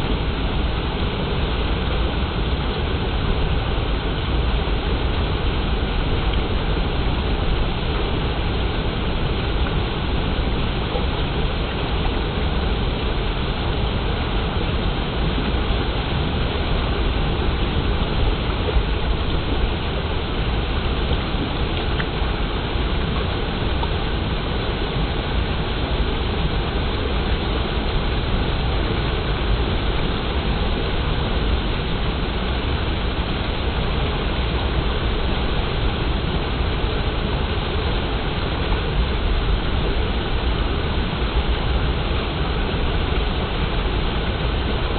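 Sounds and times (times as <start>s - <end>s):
stream water rushing: 0.0s - 44.9s.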